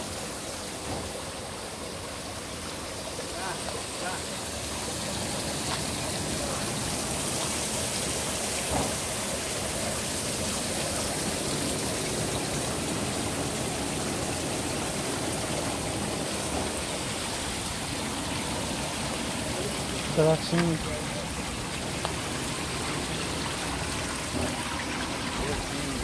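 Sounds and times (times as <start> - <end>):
rushing water through filter: 0.0 - 26.0.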